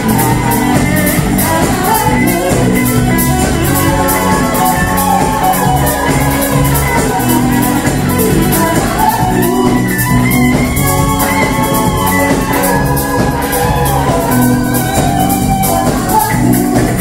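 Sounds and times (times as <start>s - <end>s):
drum kit with hi-hat: 0.0s - 17.0s
electric bass line: 0.0s - 17.0s
electric guitar: 0.0s - 17.0s
hand percussion: 0.0s - 17.0s.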